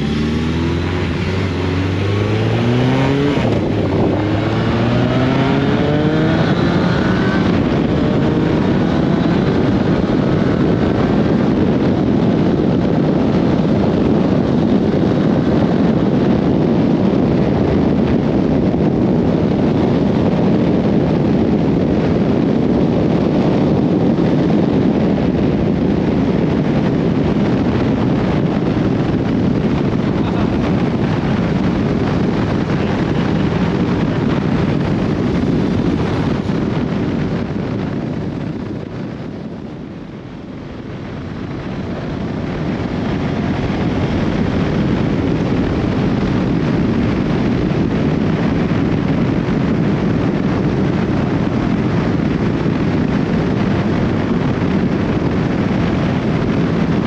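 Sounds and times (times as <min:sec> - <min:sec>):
motorcycle engine: 0:00.0 - 0:57.0
wind rushing over microphone: 0:00.0 - 0:57.0.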